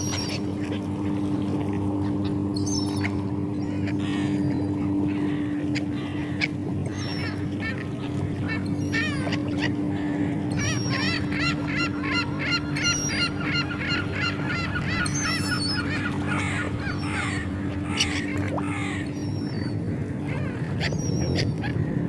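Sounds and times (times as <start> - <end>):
seagulls calling: 0.0 - 22.0
steady low hum: 0.0 - 22.0.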